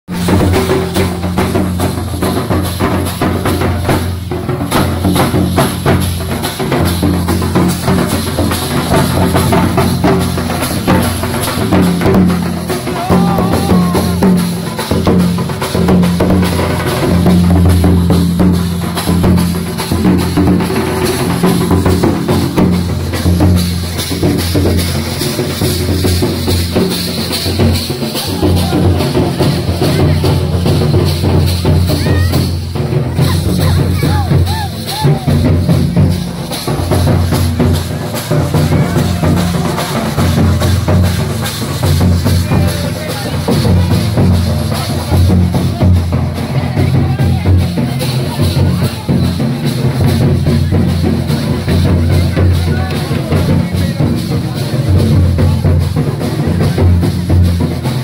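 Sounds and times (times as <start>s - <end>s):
barrel drums beaten with sticks: 0.1s - 58.0s
metal hand cymbals clashing: 0.1s - 58.0s.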